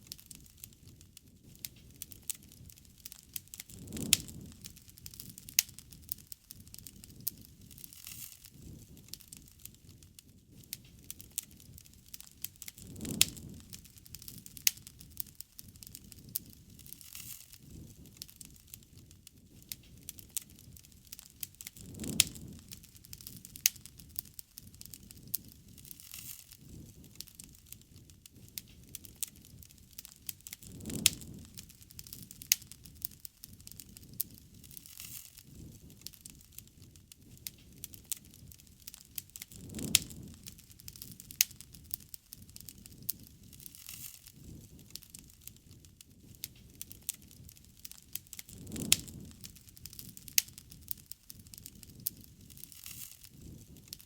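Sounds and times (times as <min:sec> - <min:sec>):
campfire crackling and popping: 0:00.0 - 0:54.0
low rumble of burning: 0:00.0 - 0:54.0.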